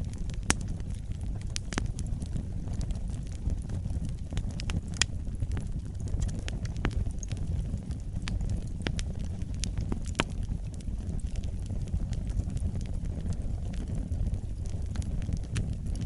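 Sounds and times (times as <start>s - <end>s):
fire crackles and pops: 0.0s - 16.0s
low rumble of flames: 0.0s - 16.0s.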